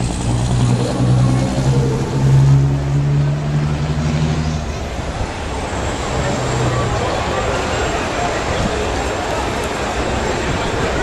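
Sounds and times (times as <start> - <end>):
truck diesel engine driving off: 0.0 - 11.0.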